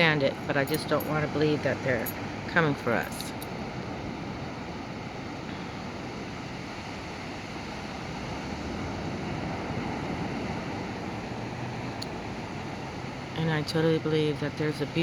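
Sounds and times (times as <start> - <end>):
waves washing onto beach: 0.0 - 15.0.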